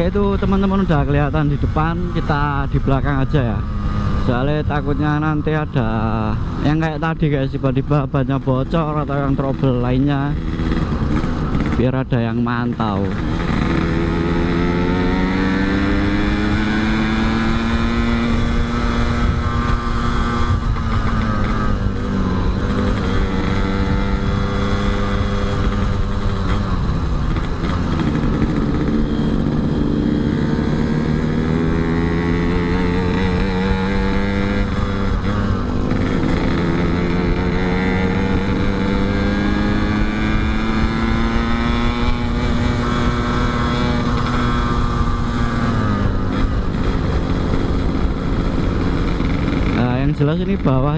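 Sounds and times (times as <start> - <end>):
motorcycle two-stroke engine revving: 0.0 - 50.9.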